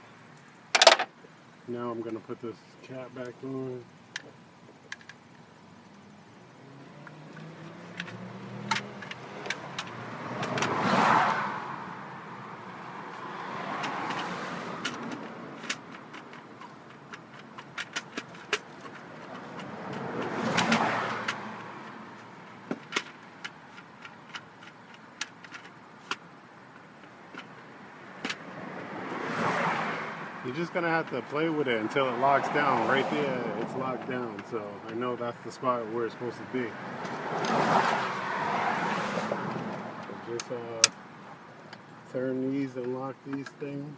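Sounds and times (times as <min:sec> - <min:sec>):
vehicles passing: 0:00.0 - 0:43.9.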